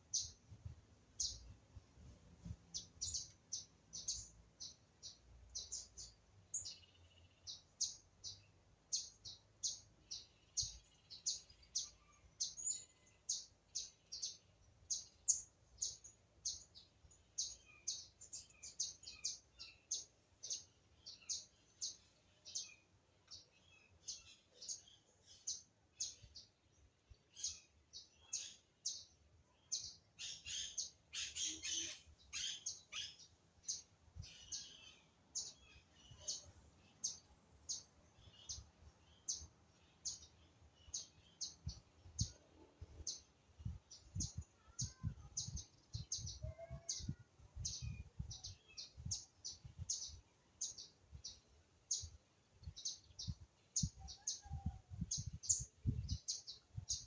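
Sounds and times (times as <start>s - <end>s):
small bird chirping: 0.0s - 1.7s, 2.7s - 57.0s.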